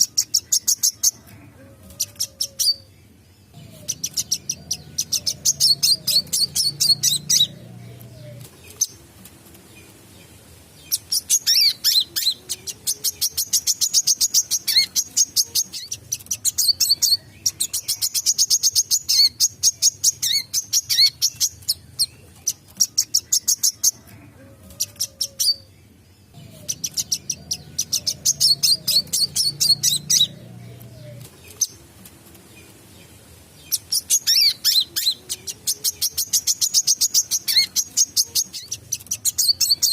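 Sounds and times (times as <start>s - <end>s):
sunbird chirping: 2.0s - 9.1s, 9.7s - 23.9s, 25.1s - 39.9s.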